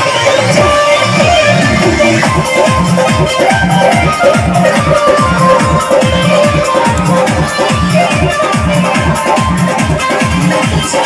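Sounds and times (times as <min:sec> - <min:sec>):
loud dance music: 0:00.0 - 0:11.0
heavy bass beat: 0:00.6 - 0:10.9.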